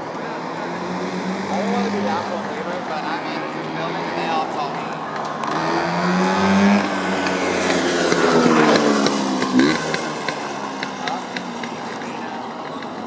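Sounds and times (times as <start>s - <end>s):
engine revving: 0.4s - 4.6s, 5.2s - 13.0s.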